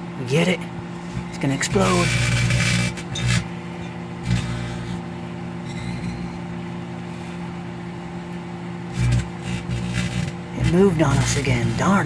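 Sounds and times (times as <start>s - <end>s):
microwave electrical hum and buzz: 0.0s - 12.0s.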